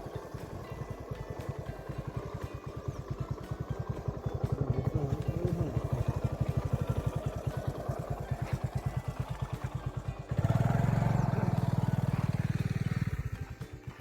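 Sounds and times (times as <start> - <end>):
engine chugging: 0.0 - 14.0.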